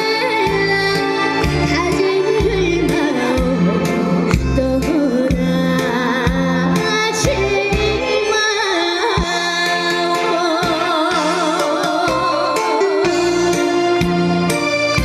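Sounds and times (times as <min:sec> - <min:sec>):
melody of held vibrato notes: 0:00.0 - 0:15.0.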